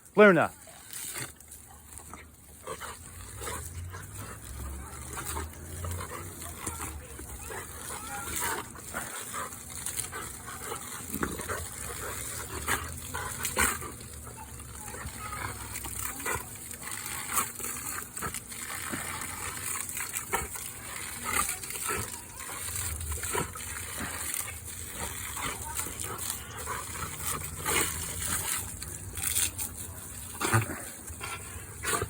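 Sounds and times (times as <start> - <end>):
garden hose spraying: 0.0 - 32.0
dog biting at water: 0.5 - 32.0.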